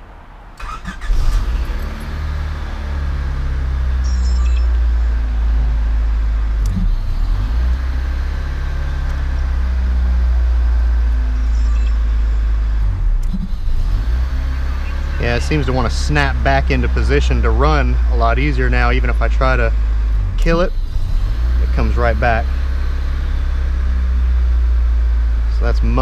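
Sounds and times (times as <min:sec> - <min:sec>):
car engine starting and idling: 0:00.0 - 0:26.0.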